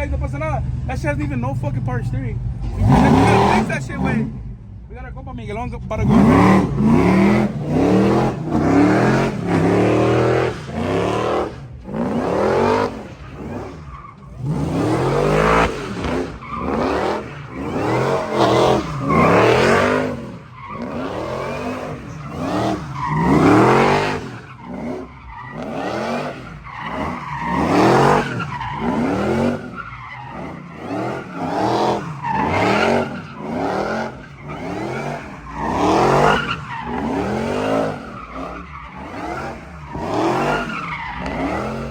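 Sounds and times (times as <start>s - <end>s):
engines revving: 0.0s - 4.6s, 5.4s - 41.9s
tyre squeal: 6.1s - 41.9s.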